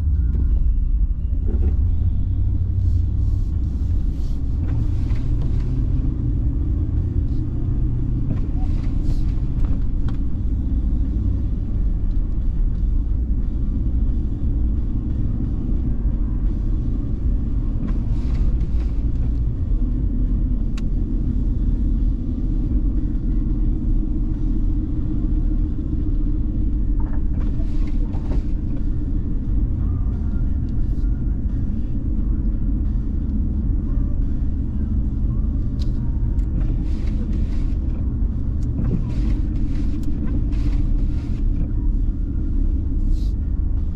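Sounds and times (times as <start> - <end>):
car driving rumble: 0.0 - 43.9.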